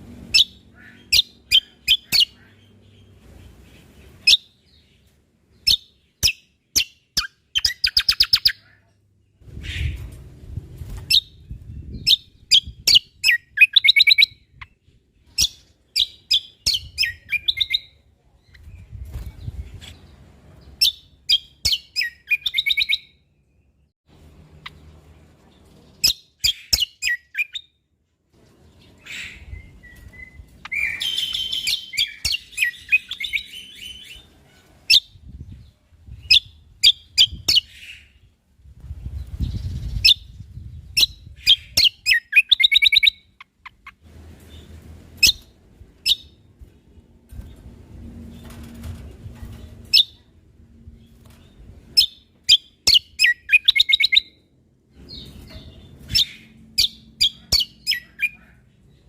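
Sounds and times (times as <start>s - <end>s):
bird singing high chirps and trills: 0.3s - 47.7s, 49.5s - 59.0s.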